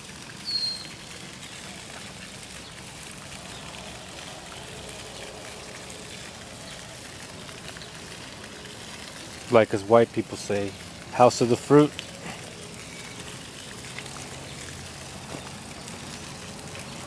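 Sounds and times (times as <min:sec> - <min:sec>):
running splashing water: 0:00.0 - 0:17.0.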